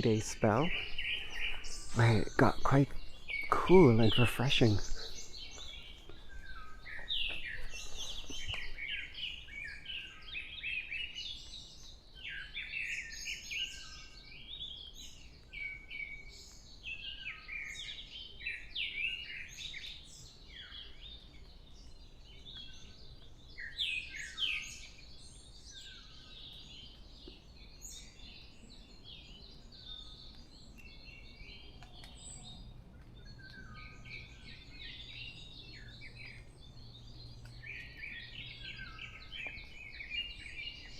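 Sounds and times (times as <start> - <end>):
songbirds singing and calling: 0.0 - 40.9.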